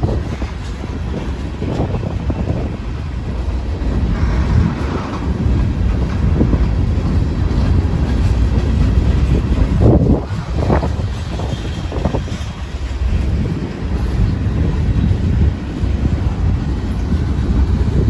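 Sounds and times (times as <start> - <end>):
freight train rumbling past: 0.0 - 18.0
wind buffeting the microphone: 0.0 - 18.0.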